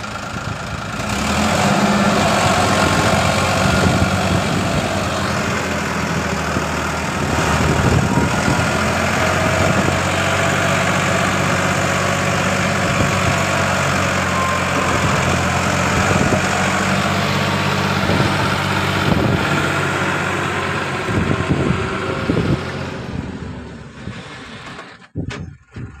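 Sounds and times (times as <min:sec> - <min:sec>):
tractor diesel engine straining: 0:00.0 - 0:26.0.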